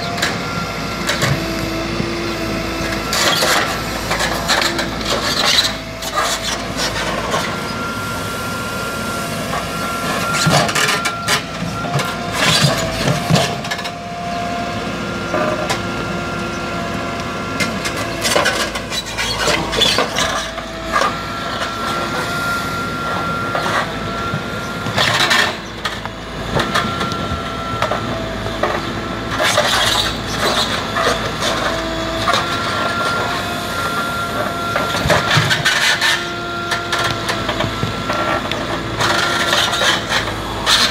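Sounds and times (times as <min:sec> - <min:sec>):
backhoe engine running: 0:00.0 - 0:40.9
hydraulic whine: 0:00.0 - 0:40.9.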